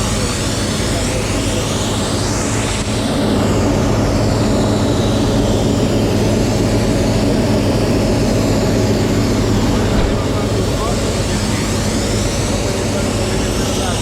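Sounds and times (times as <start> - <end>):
crop sprayer engine drone: 0.0 - 14.0
sprayer hiss: 0.0 - 14.0.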